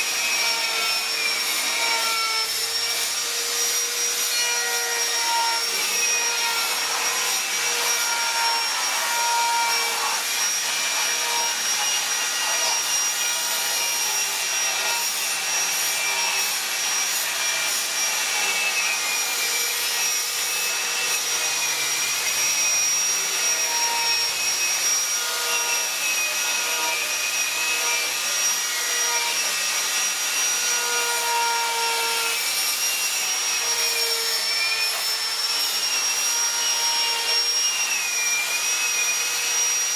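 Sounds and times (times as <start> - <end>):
rotary tool whine: 0.0 - 39.9.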